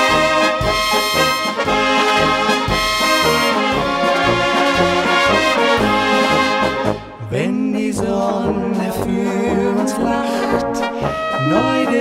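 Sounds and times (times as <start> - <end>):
brass band music: 0.0 - 12.0.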